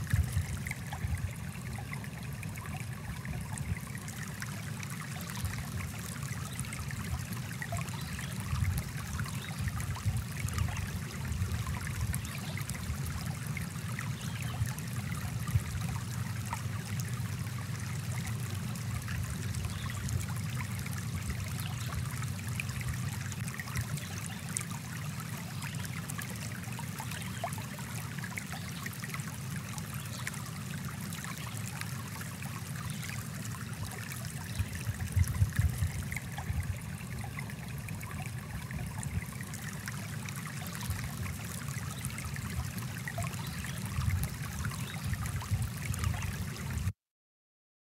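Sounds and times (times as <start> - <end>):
stream babbling: 0.0 - 46.9.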